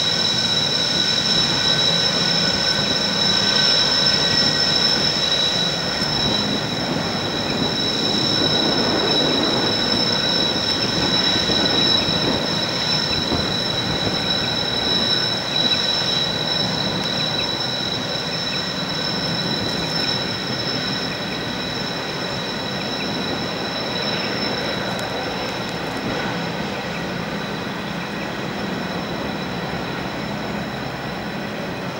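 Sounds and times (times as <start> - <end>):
high-pitched wheel squeal: 0.0 - 31.9
train running noise: 0.0 - 31.9.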